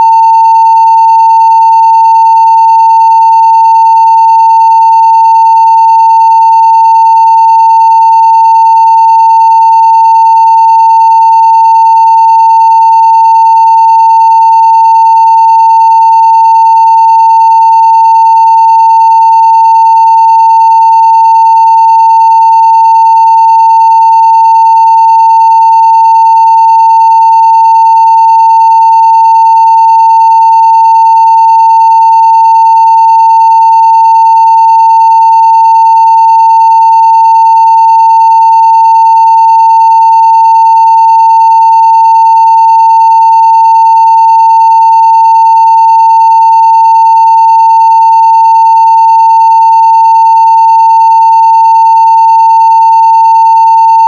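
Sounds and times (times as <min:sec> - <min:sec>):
sine-wave test tone: 0:00.0 - 0:54.0.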